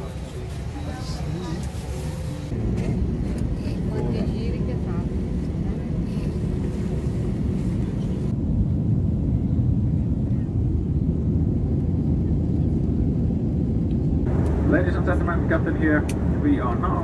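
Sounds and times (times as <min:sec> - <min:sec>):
jet airliner cabin noise: 0:00.0 - 0:17.0.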